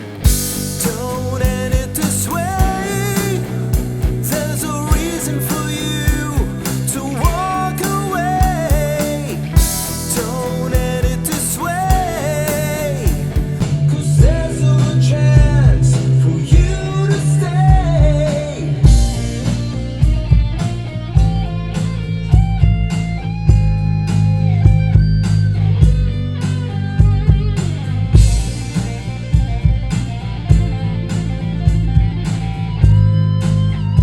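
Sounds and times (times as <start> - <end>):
bass line: 0.0 - 34.0
drum kit beat: 0.0 - 34.0
lead guitar bending notes: 0.0 - 34.0.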